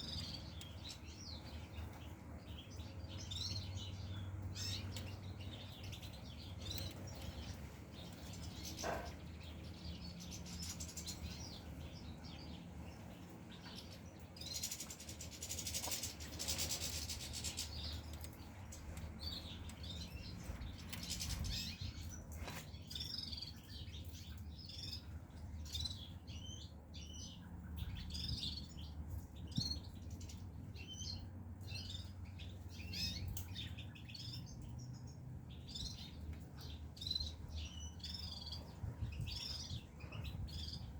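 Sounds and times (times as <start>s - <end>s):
finches chirping and twittering: 0.0s - 40.9s.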